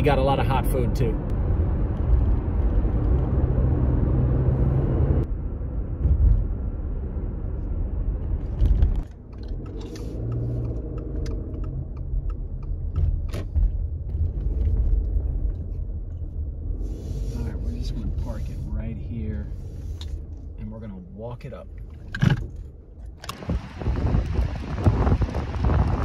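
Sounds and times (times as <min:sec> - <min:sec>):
tyre and engine noise in a car: 0:01.4 - 0:26.0.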